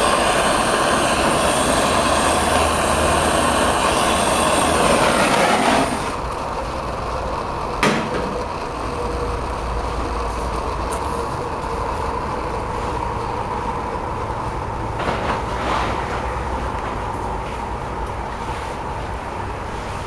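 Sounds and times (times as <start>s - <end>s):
fire rumbling and hissing: 0.0s - 20.0s.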